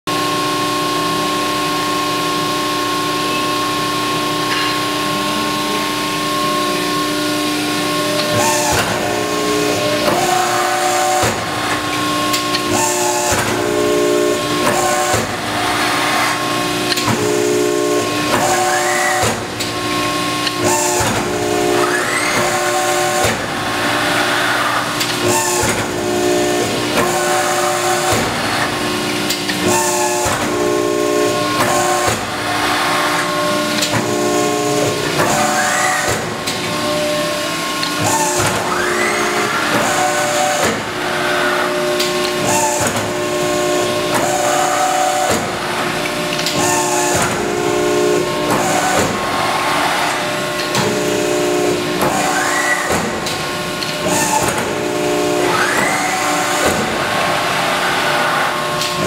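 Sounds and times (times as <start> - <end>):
hydraulic pump hum and whine: 0.1 - 59.0.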